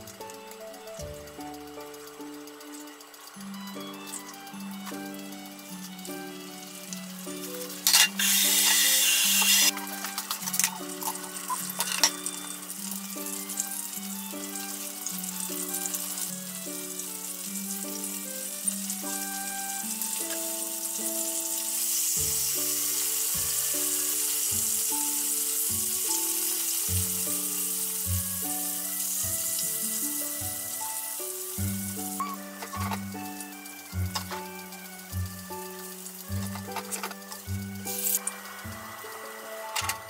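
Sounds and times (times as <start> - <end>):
background music: 0.0 - 40.0
food sizzling in oil: 0.0 - 40.0.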